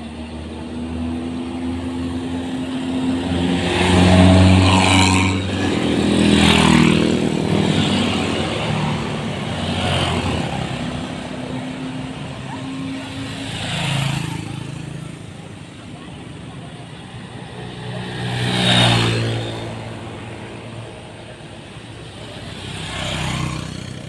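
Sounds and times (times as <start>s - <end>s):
large vehicles driving past: 0.0s - 24.0s.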